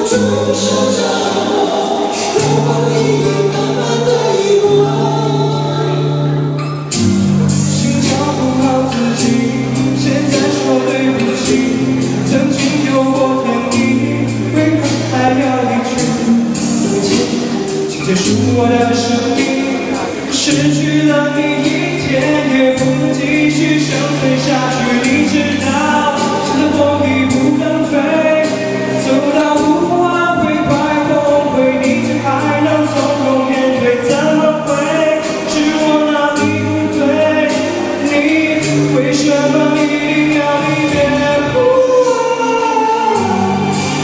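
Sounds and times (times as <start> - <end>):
backing track with bass and drums: 0.0 - 44.0
man singing into microphone: 0.0 - 44.0.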